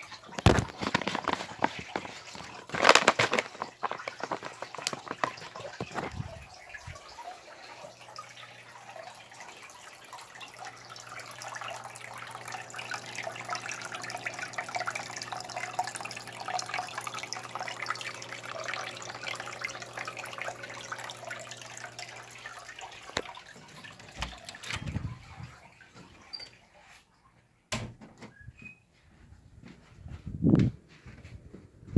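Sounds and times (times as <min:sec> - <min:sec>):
water running and splashing: 0:00.0 - 0:26.9.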